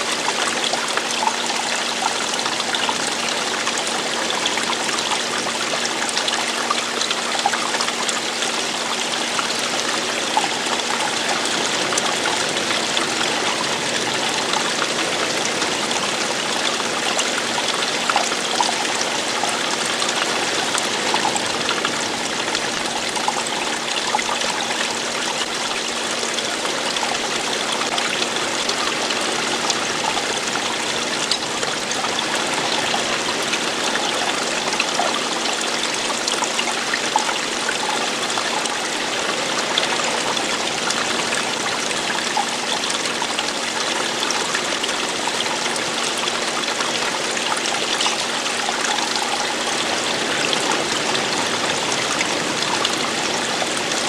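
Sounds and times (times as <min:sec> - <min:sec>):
running water splashing: 0:00.0 - 0:54.0.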